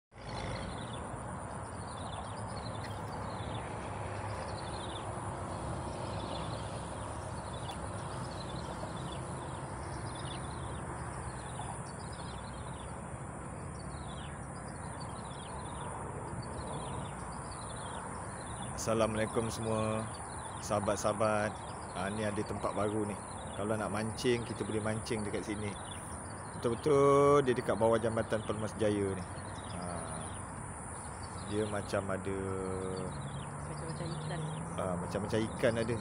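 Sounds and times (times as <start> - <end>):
bird chirping: 0.1 - 36.0
distant road traffic: 0.1 - 36.0.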